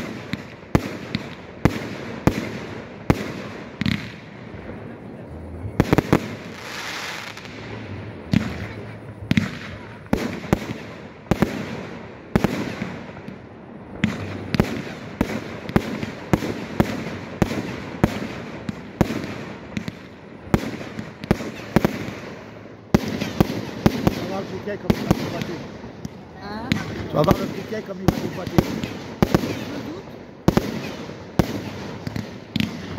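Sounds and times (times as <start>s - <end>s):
fireworks launching and bursting: 0.0s - 32.9s.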